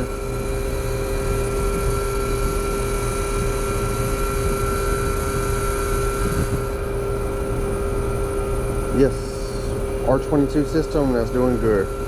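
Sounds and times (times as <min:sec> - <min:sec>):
air conditioner unit humming: 0:00.0 - 0:12.0.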